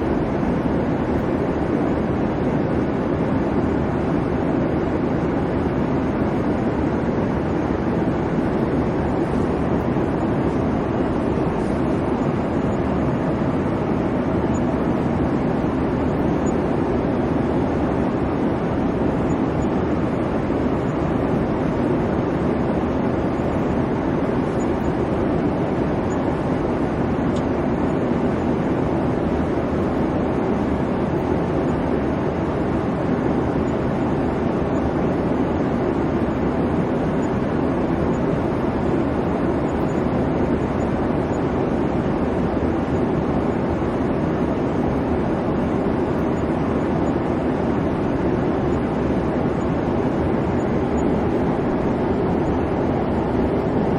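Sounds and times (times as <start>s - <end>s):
airliner cabin engine rush: 0.0s - 53.9s.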